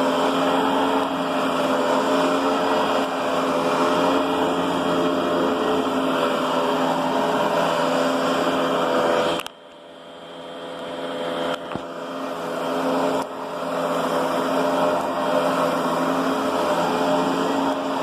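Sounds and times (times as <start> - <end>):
upright vacuum running: 0.0 - 18.0.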